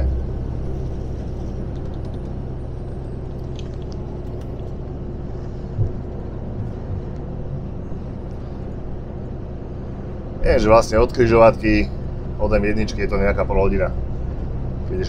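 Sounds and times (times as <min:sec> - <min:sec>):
lorry cab engine and road drone: 0:00.0 - 0:15.0.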